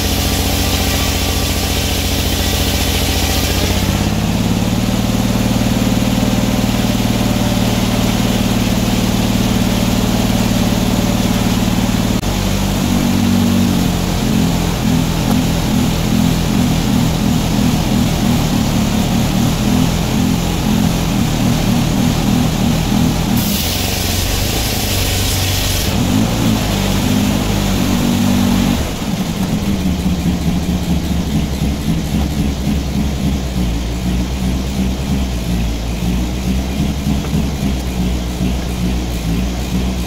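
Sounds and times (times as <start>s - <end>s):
sawmill engine running: 0.0s - 40.0s.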